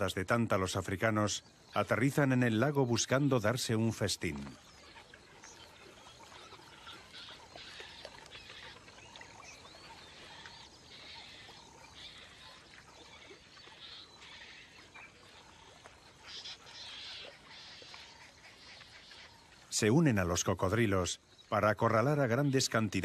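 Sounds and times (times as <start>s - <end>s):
flock of storks: 0.0s - 23.0s.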